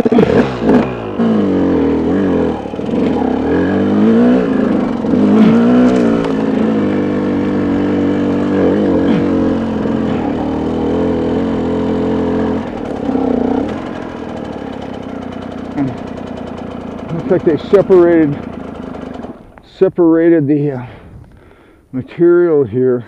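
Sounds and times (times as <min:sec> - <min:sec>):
dirt bike engine revving: 0:00.0 - 0:20.2.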